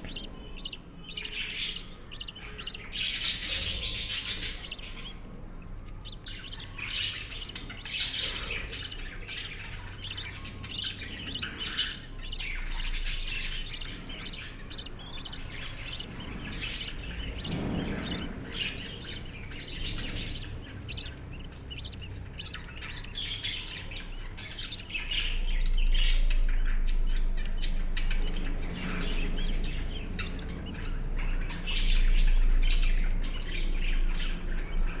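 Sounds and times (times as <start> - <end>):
budgerigars chirping: 0.0 - 35.0.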